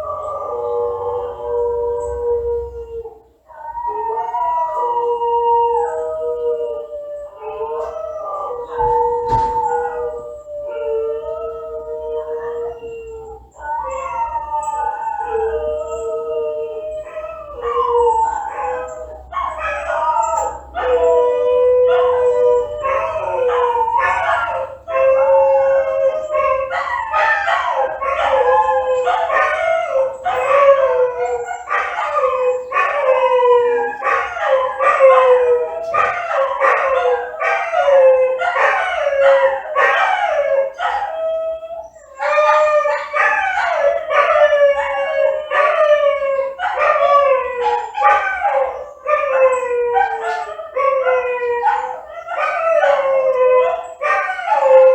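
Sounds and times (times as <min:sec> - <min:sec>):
dogs howling and yelping: 0:00.0 - 0:54.9.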